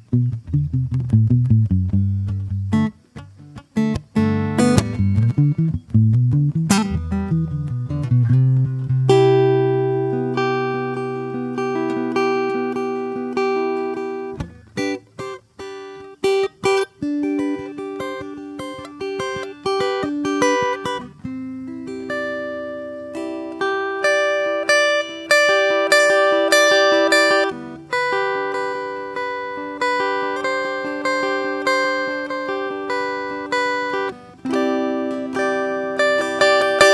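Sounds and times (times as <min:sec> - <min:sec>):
acoustic guitar plucked slowly: 0:00.0 - 0:36.9.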